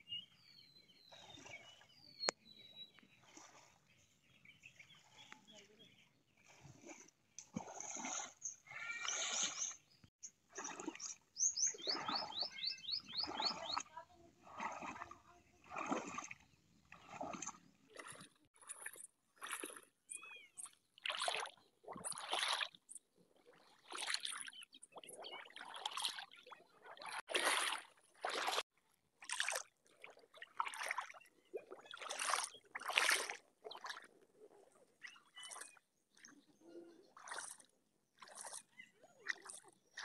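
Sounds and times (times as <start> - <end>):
water splashing and sloshing: 0.0 - 40.0.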